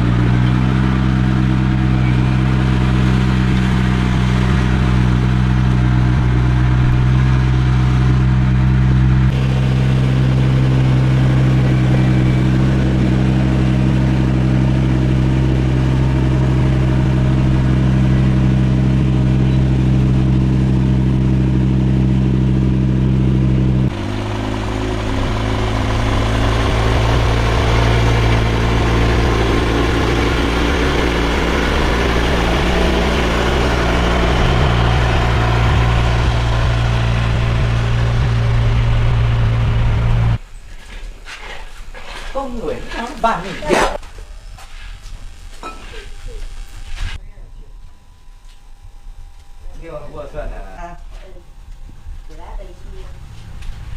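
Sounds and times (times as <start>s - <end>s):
truck engine running: 0.0s - 40.4s, 42.6s - 53.9s.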